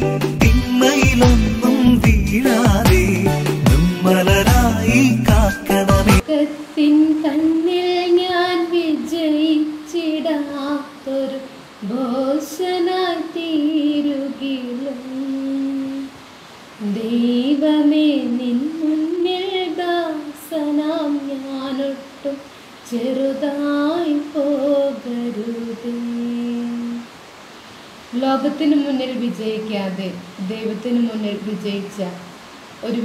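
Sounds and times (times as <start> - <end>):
woman singing: 0.0 - 16.2, 16.8 - 27.2.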